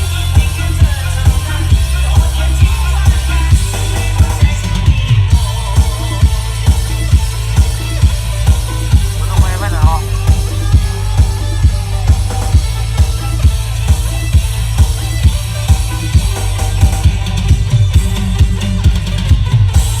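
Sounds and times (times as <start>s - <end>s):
heavy bass music with kick drum: 0.0s - 20.0s.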